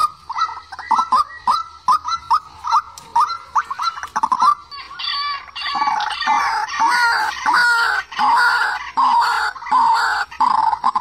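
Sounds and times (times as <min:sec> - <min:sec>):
waterhen croaking calls: 0:00.0 - 0:11.0.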